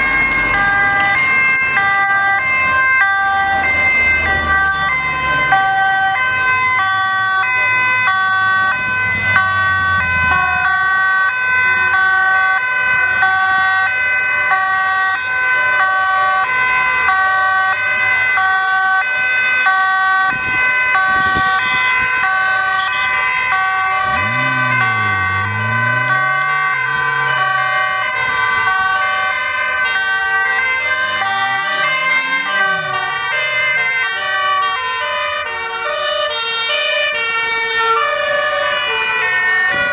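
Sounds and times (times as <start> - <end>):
vehicle engine: 0.0 - 13.8, 21.0 - 39.9
two-tone emergency sirens wailing: 0.0 - 39.9.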